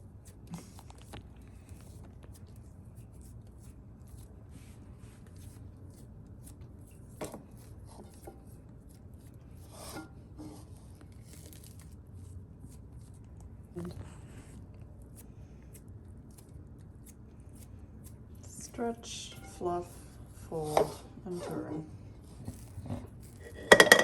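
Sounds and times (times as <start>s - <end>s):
hands kneading sticky dough: 0.0s - 23.7s
steady low hum: 0.0s - 24.0s.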